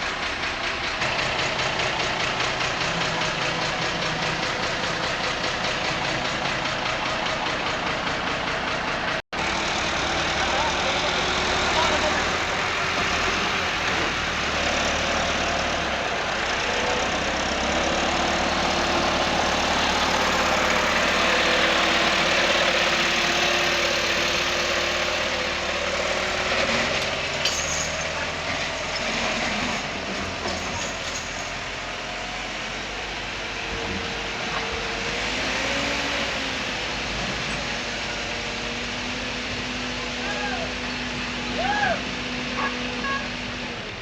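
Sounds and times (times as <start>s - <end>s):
heavy vehicle engine running: 0.0s - 44.0s.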